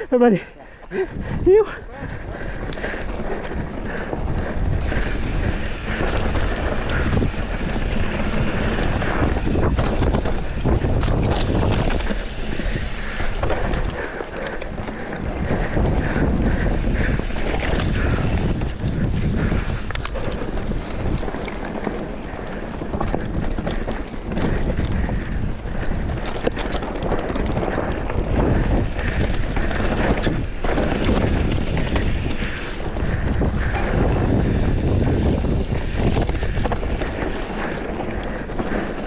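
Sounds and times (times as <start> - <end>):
mountain bike rumbling and rattling: 0.0 - 39.0
wind buffeting microphone: 0.0 - 39.0.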